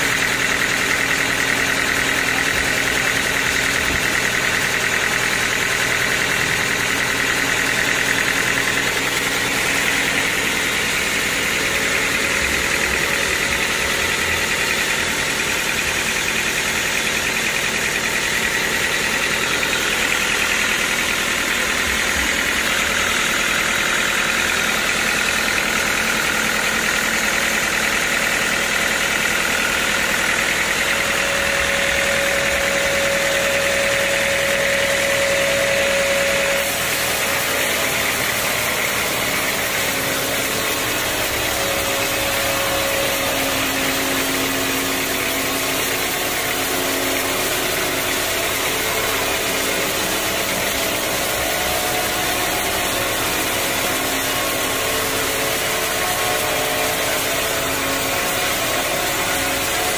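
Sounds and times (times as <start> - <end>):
band sawmill whining: 0.0 - 59.9.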